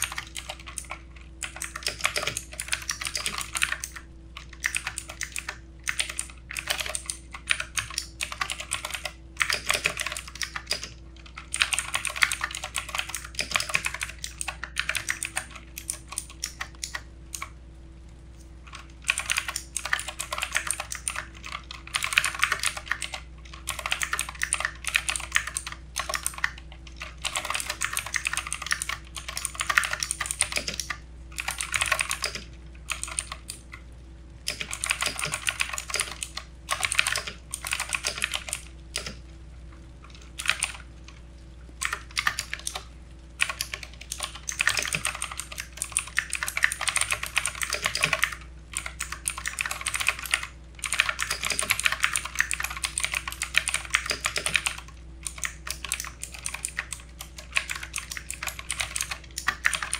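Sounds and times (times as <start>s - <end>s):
mechanical keyboard typing: 0.0s - 17.5s, 18.7s - 33.8s, 34.4s - 39.2s, 40.1s - 41.2s, 41.8s - 59.9s.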